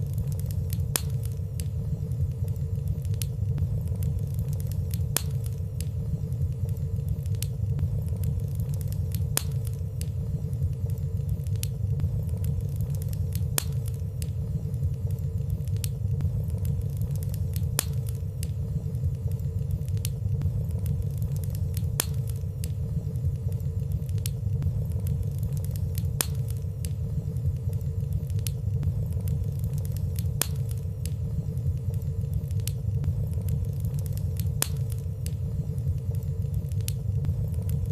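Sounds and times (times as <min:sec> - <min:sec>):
flames rumbling: 0:00.0 - 0:37.9.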